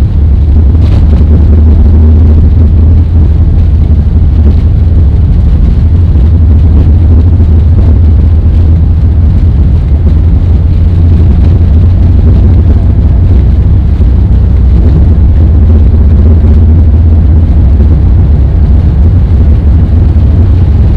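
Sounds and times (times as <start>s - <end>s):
airplane cabin engine rumble: 0.0s - 20.9s.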